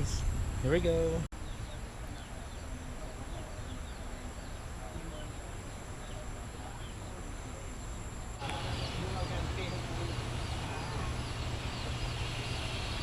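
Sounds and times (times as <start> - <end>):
birds chirping: 0.0 - 13.0
high insect drone: 0.0 - 13.0.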